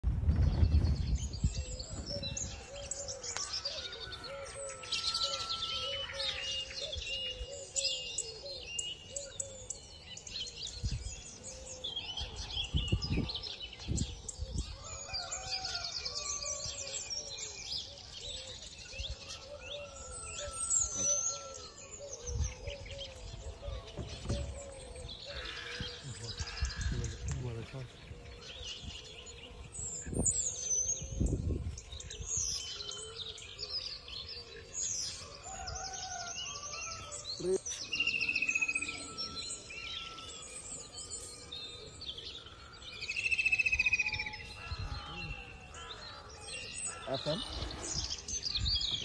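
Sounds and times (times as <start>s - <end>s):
birds chirping: 0.3s - 49.0s.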